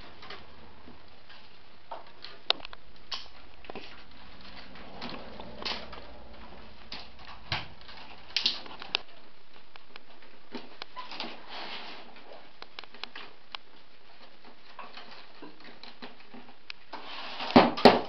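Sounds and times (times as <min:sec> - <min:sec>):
willow rods clicking and rustling: 0:01.2 - 0:18.0.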